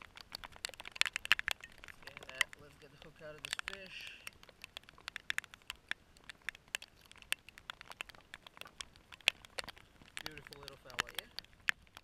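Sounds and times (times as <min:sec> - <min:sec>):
raindrops hitting camera: 0:00.0 - 0:12.0.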